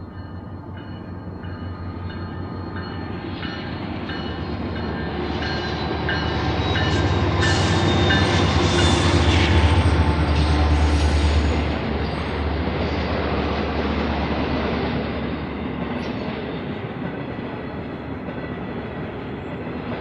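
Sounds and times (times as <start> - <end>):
diesel train engine rumble: 0.0 - 20.0.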